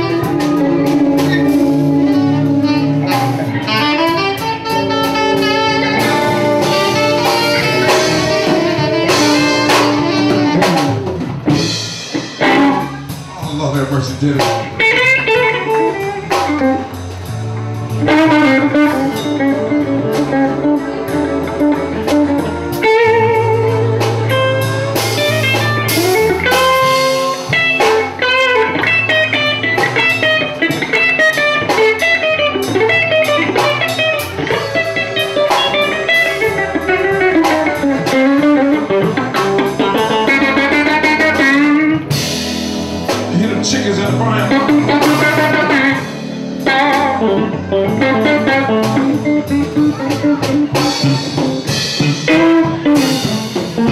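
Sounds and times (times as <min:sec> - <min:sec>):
bass guitar: 0:00.0 - 0:53.9
drum kit: 0:00.0 - 0:53.9
electric guitar lead with bending notes: 0:00.0 - 0:53.9.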